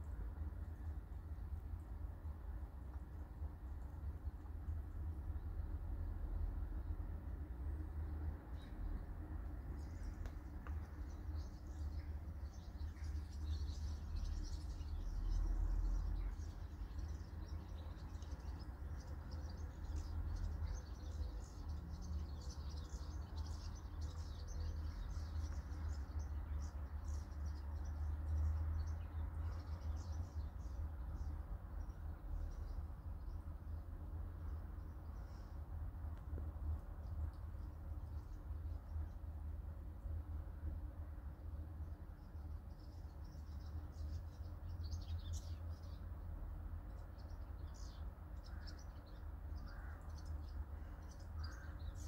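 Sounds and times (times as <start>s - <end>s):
small birds chirping: 0.0s - 52.0s
steady low rumble: 0.0s - 52.0s.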